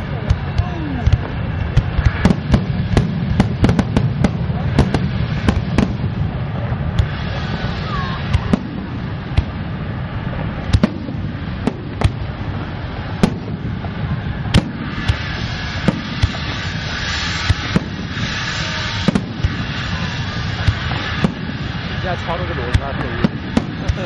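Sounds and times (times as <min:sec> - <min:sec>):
firework crackling: 0:00.0 - 0:24.0
firework shell bursts: 0:00.0 - 0:24.0
steady low rumble: 0:00.0 - 0:24.0.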